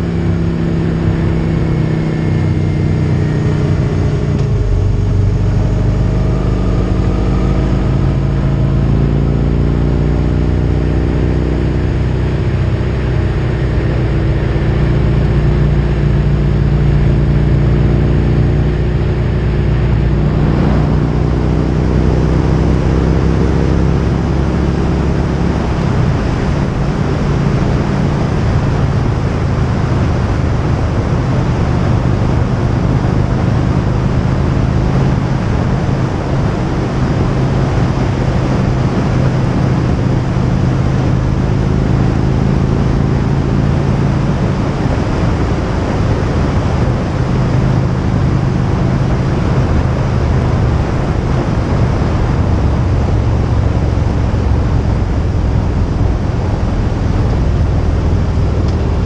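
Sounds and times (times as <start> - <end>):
motorcycle engine running: 0.0 - 59.0
wind rushing over microphone: 10.2 - 59.0.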